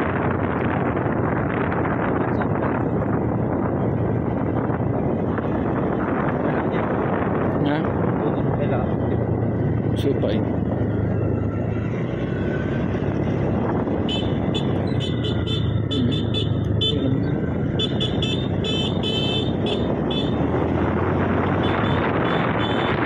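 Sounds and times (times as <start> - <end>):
motorcycle engine hum: 0.0 - 23.0
wind and road noise: 0.0 - 23.0.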